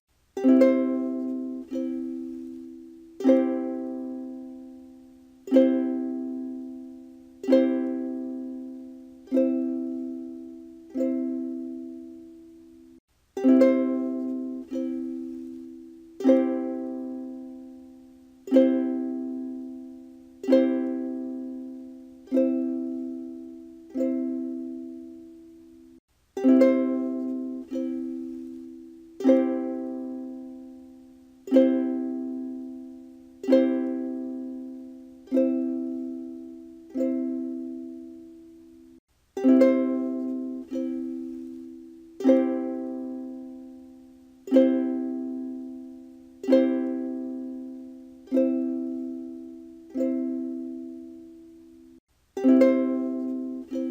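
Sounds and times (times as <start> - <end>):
ukulele chord strums: 0.2 - 53.9.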